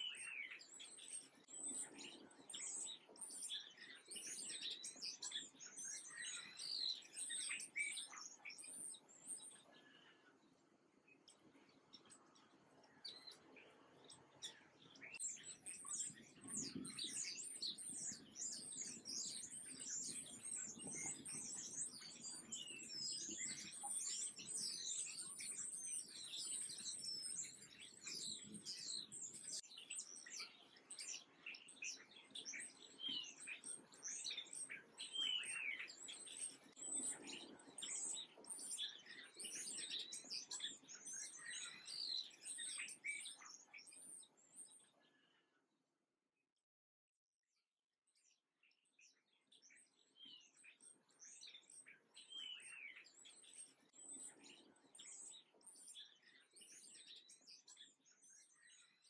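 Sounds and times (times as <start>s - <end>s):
small birds chirping: 0.0s - 45.7s, 48.1s - 59.0s.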